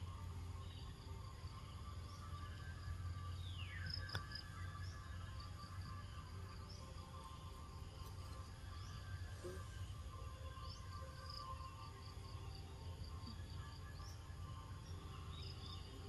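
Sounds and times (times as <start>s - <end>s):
insects chirping: 0.0s - 16.0s
low hum: 0.0s - 16.0s.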